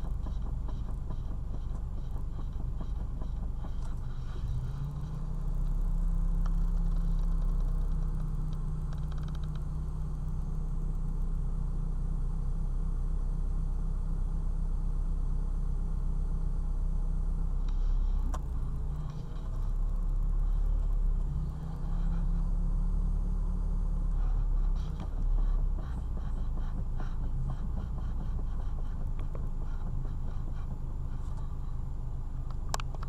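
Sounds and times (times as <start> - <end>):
car rumbling on the move: 0.0 - 33.0.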